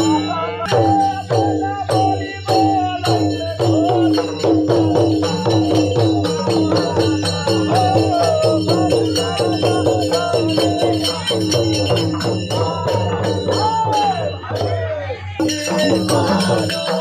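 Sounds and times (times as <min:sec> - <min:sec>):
hand drums beaten fast: 0:00.0 - 0:17.0
metallic jingle: 0:00.0 - 0:17.0.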